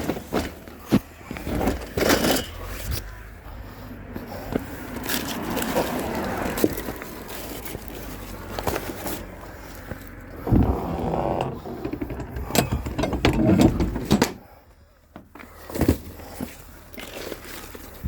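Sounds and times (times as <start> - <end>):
rustling of bundles: 0.0 - 14.6, 15.3 - 18.0.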